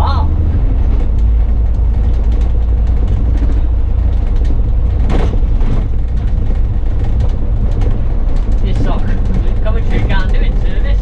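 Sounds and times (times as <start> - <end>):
bus engine rumbling: 0.0 - 11.0
rattles and clicks from bus body: 0.0 - 11.0.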